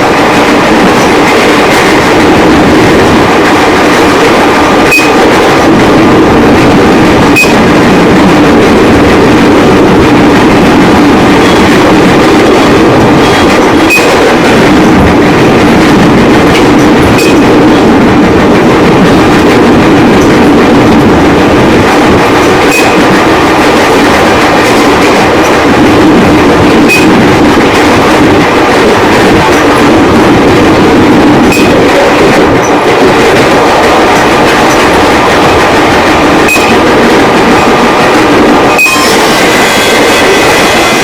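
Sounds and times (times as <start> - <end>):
train running gear drone: 0.0 - 41.0.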